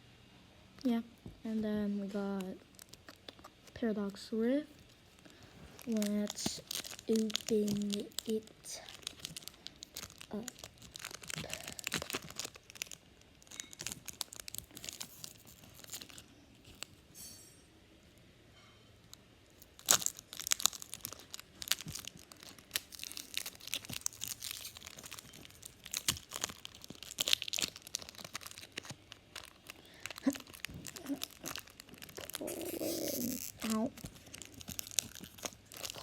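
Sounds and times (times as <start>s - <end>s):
foil wrapper crinkling and tearing: 1.8s - 17.3s, 19.5s - 36.0s.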